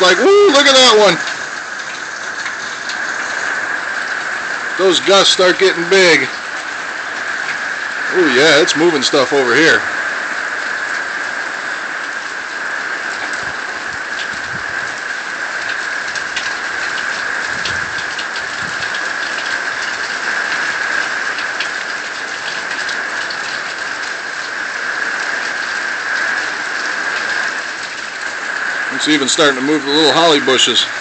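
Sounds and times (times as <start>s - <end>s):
heavy rain hiss: 0.0s - 31.0s
raindrops ticking on surfaces: 0.0s - 31.0s.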